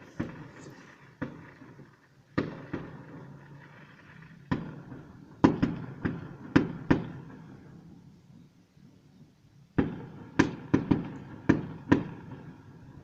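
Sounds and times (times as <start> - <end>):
fireworks bangs with echo: 0.0 - 7.8, 9.8 - 13.0.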